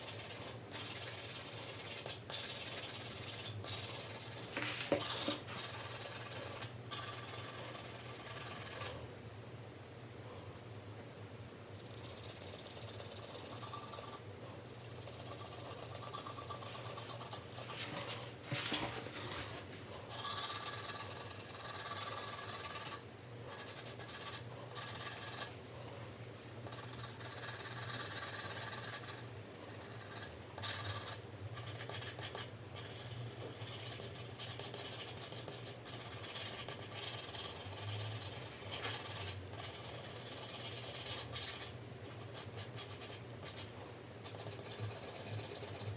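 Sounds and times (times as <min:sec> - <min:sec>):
pencil scratching on paper: 0:00.0 - 0:09.0, 0:12.2 - 0:18.0, 0:20.1 - 0:25.5, 0:26.7 - 0:45.9.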